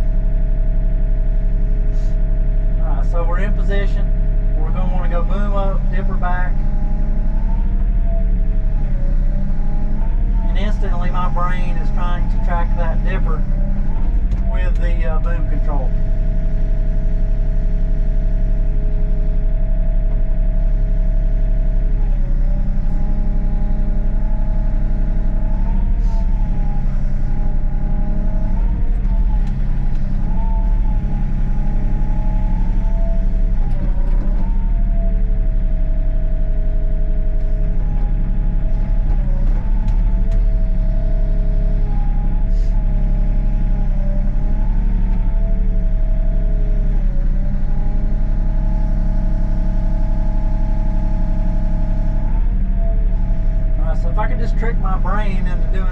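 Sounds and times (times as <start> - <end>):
excavator diesel engine: 0.0 - 55.9
hydraulic whine: 0.0 - 55.9.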